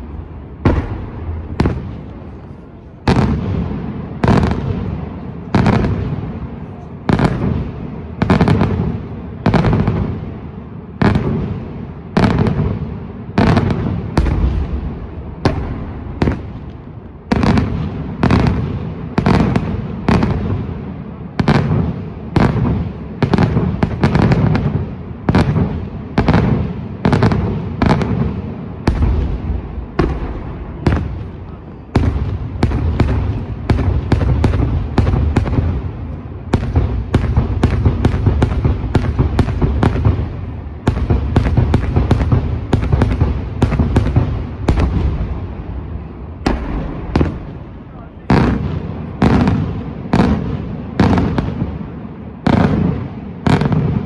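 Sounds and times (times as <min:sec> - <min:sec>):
fireworks bursting with loud bangs: 0:00.0 - 0:54.0.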